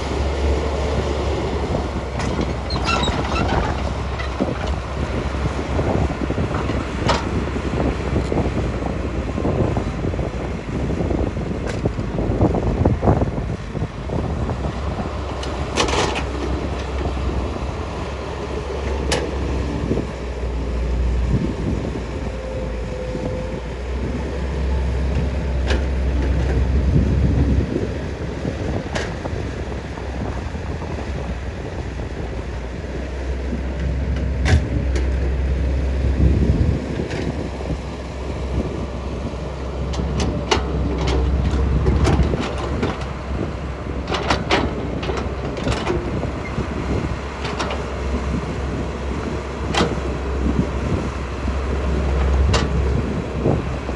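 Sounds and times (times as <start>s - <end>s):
excavator diesel engine rumbling: 0.0s - 53.9s.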